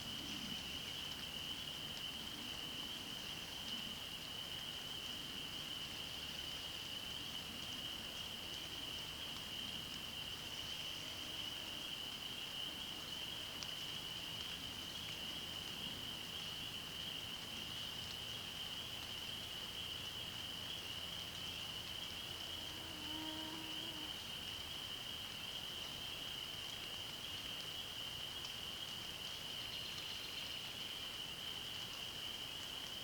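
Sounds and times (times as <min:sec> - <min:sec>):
soft steady hiss: 0:00.0 - 0:33.0.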